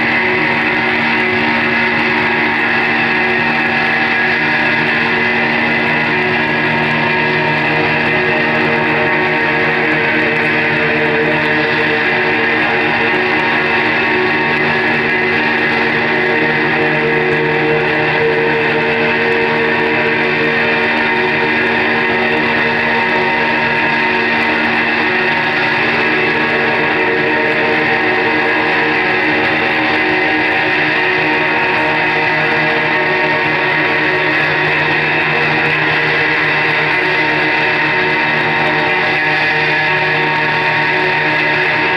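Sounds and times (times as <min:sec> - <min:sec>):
electric guitar held notes: 0:00.0 - 0:41.9.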